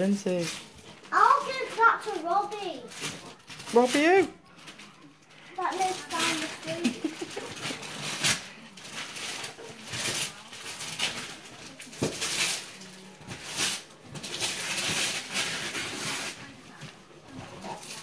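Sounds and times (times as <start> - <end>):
wrapping paper rustling and tearing: 0.0 - 18.0.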